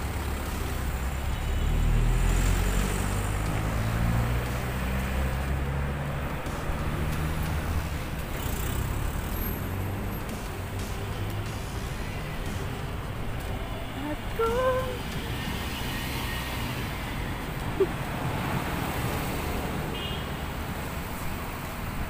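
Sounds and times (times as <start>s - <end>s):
cars passing with engine rumble: 0.0s - 22.0s.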